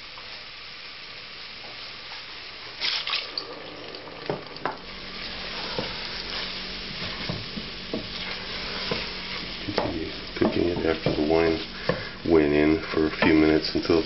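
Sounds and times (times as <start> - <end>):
food sizzling in a saucepan: 0.0 - 14.0.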